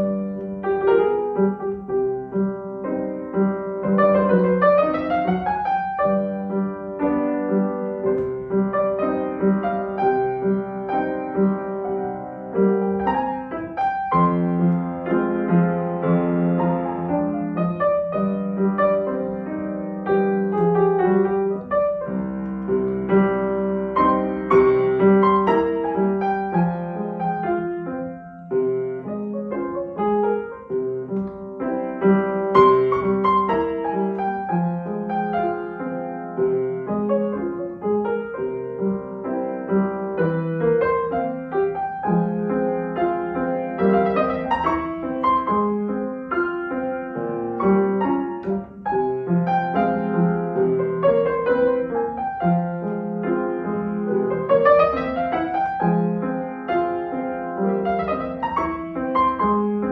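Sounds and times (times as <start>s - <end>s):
solo classical piano piece: 0.0s - 59.9s.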